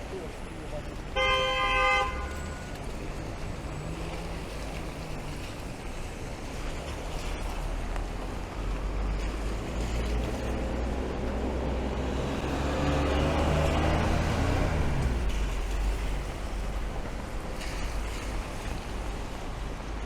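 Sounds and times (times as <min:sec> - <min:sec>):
passing vehicle engines rumbling: 0:00.0 - 0:20.0
rain hissing: 0:02.3 - 0:20.0.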